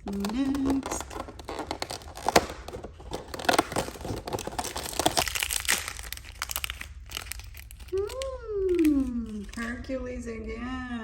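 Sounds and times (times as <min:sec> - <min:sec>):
packaging crinkling and ripping: 0:00.0 - 0:09.8.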